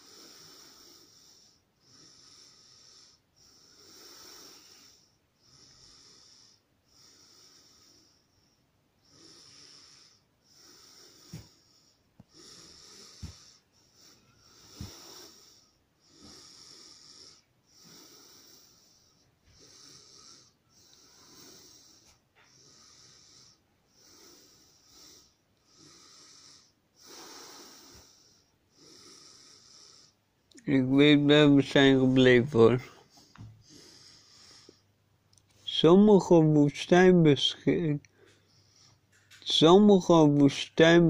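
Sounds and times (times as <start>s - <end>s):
person breathing close: 0.0s - 39.5s.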